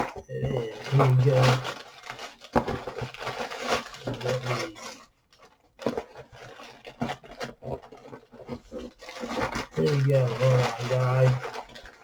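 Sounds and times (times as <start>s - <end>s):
packaging rustling and clicking: 0.0s - 12.0s.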